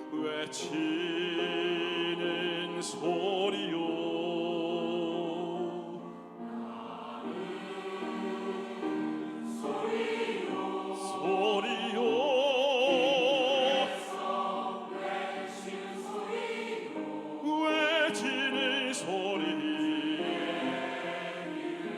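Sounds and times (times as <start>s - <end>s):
choir singing held notes: 0.0s - 21.9s.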